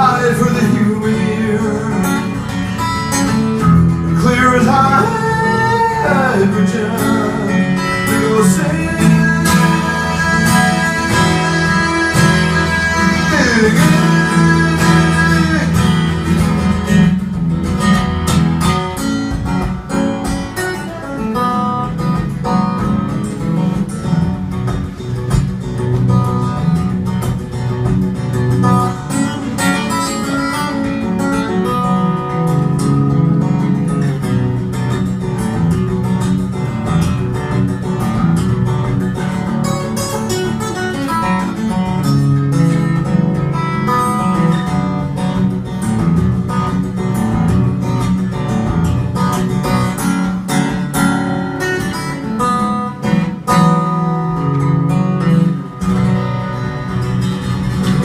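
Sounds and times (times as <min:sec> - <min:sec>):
acoustic guitar plucked notes: 0:00.0 - 0:58.0.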